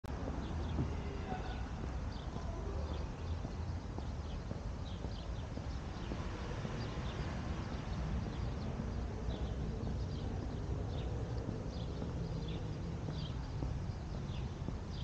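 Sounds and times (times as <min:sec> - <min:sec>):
low outdoor rumble: 0:00.0 - 0:15.0
birds chirping: 0:00.1 - 0:15.0
footsteps on paving stones: 0:00.1 - 0:15.0.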